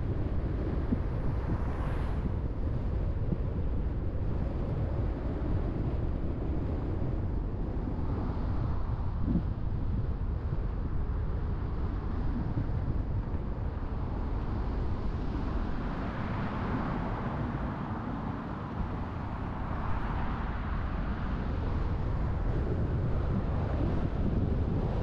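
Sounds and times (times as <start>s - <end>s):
road and tyre noise: 0.0s - 25.0s.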